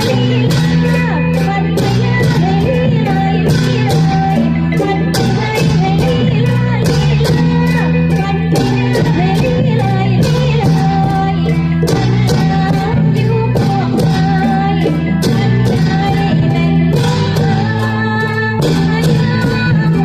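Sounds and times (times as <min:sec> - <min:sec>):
percussion beat: 0:00.0 - 0:20.0
person singing: 0:00.0 - 0:20.0.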